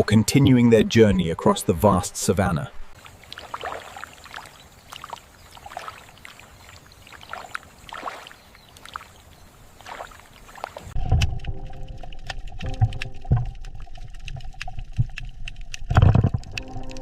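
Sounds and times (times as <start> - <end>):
water sloshing and splashing: 2.8 - 17.0.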